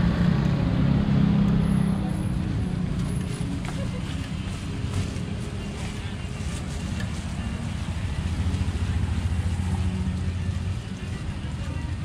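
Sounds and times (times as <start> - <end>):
traffic engine rumble: 0.0 - 12.0
faint voices: 1.8 - 12.0.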